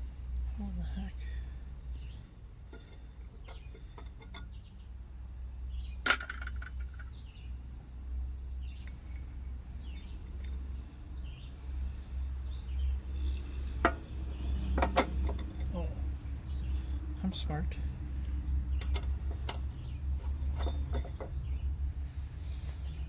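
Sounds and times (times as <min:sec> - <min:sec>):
steady low rumble: 0:00.0 - 0:23.0
birds chirping: 0:00.6 - 0:23.0.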